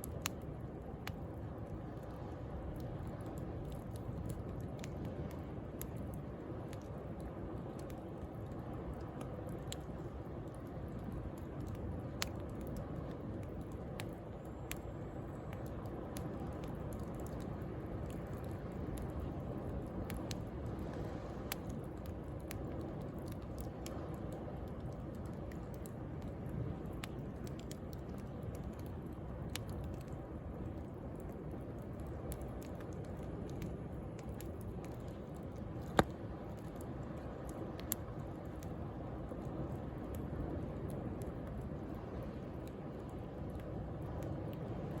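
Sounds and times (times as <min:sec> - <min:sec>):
bonfire crackling and popping: 0:00.0 - 0:45.0.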